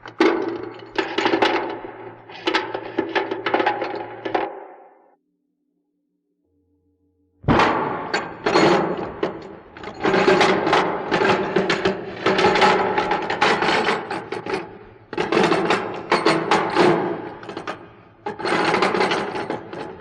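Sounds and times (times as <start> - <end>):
dense clatter of knocks and rattles: 0.0 - 4.7, 7.5 - 20.0.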